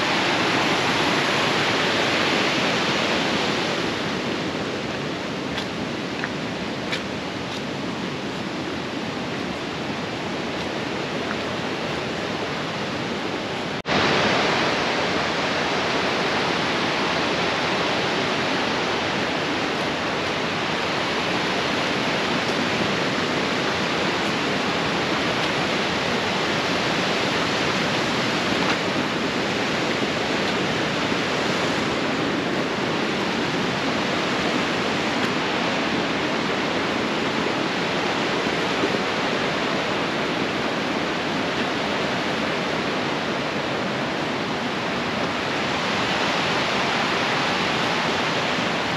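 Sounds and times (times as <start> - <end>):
flowing water rushing: 0.0 - 48.9.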